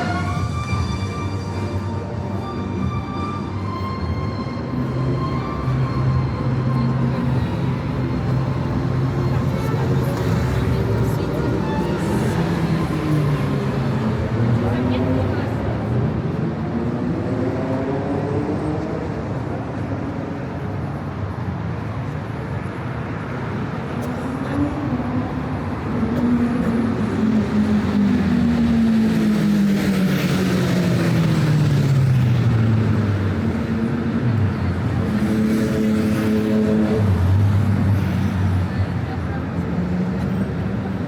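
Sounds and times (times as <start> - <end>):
car engines passing by: 0.0 - 41.0.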